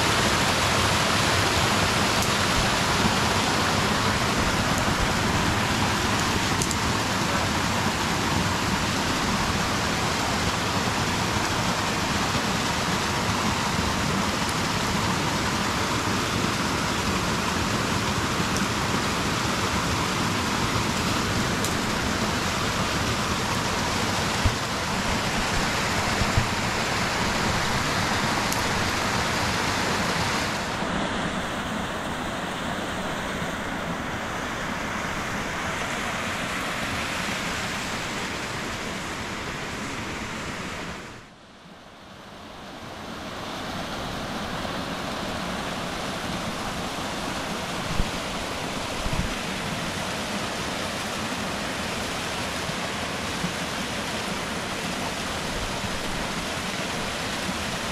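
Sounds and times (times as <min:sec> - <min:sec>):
water rushing: 0:00.0 - 0:57.9.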